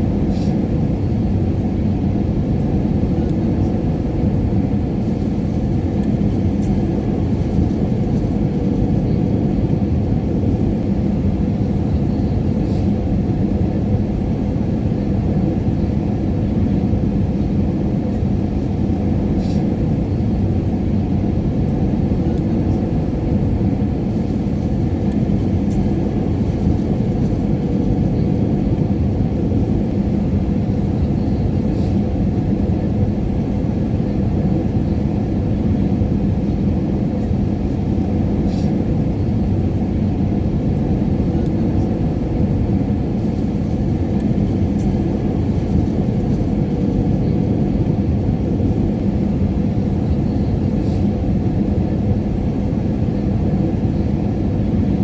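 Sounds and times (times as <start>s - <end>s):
airliner cabin engine rumble: 0.0s - 55.0s
faint constant hums: 0.0s - 55.0s.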